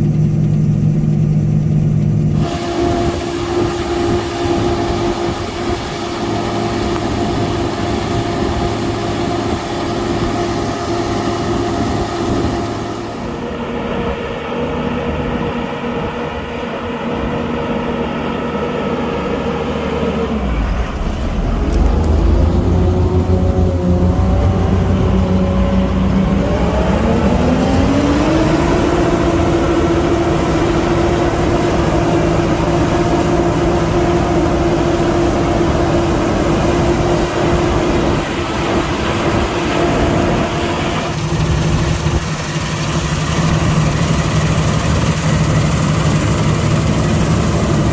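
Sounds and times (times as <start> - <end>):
combine harvester diesel engine: 0.0 - 47.9.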